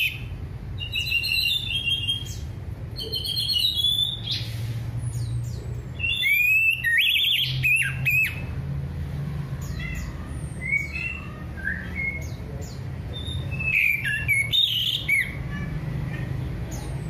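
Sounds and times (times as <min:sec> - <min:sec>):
bird singing chattering song: 0:00.0 - 0:08.6, 0:09.4 - 0:17.0.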